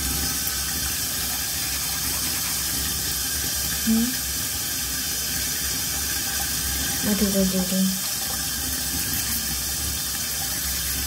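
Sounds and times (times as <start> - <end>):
sink tap running: 0.0 - 11.0.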